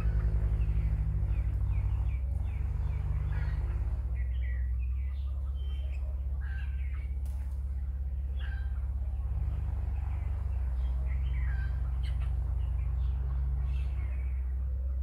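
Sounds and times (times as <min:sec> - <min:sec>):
chickens peeping: 0:00.0 - 0:15.0
steady low hum: 0:00.0 - 0:15.0.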